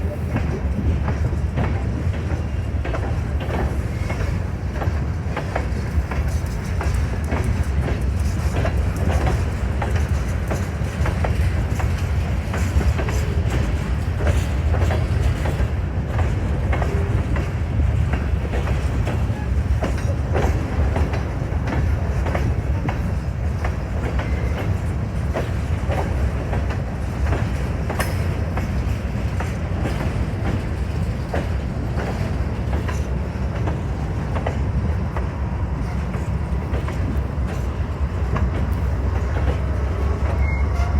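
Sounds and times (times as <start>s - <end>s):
train wheels rumbling on rails: 0.0s - 40.9s
wheels clacking over rail joints: 0.2s - 40.9s.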